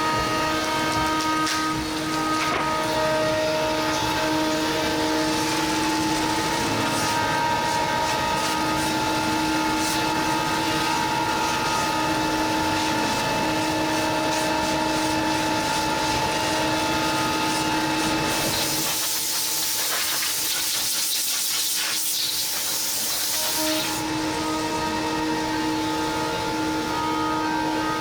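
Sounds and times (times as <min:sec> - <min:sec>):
cnc router whine: 0:00.0 - 0:19.8, 0:22.1 - 0:28.0.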